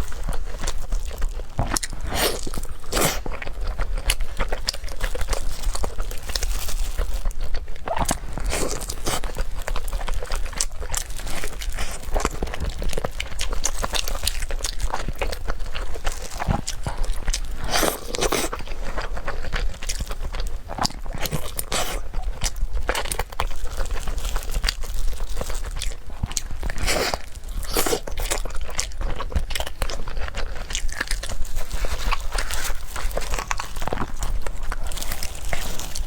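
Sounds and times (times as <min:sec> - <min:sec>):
person biting and chewing cake: 0:00.0 - 0:36.0.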